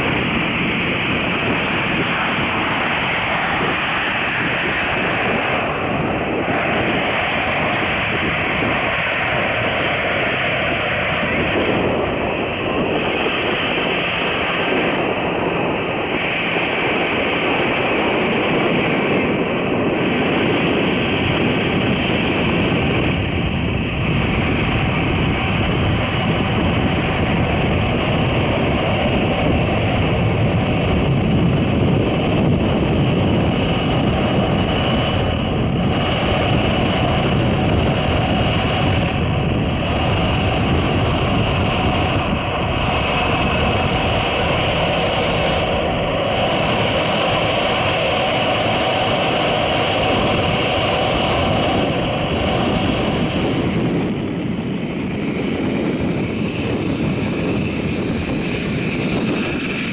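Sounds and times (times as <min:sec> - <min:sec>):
jet engines rumble and hiss: 0:00.0 - 0:59.9
thin high engine whine: 0:00.0 - 0:59.9.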